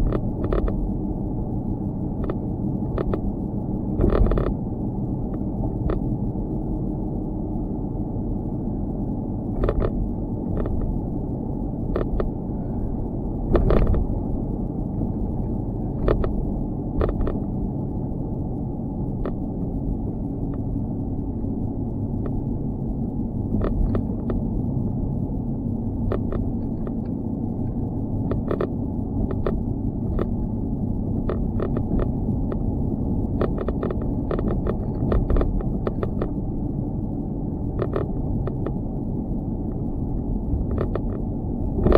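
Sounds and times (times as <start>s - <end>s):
low muffled rumble: 0.0s - 41.9s.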